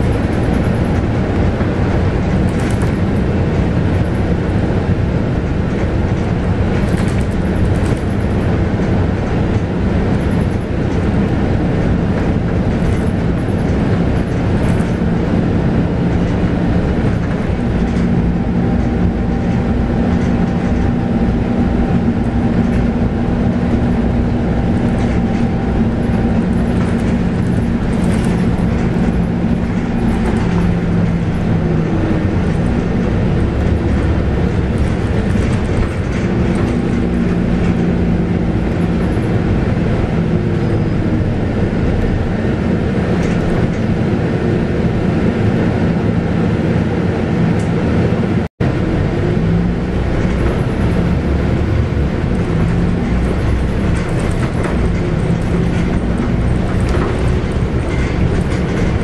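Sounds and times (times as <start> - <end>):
bus engine and road rumble: 0.0 - 59.0
low engine hum: 0.0 - 59.0.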